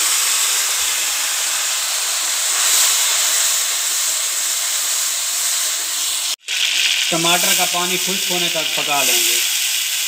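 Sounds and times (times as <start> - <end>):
tomato puree sizzling in hot oil: 0.0 - 10.0.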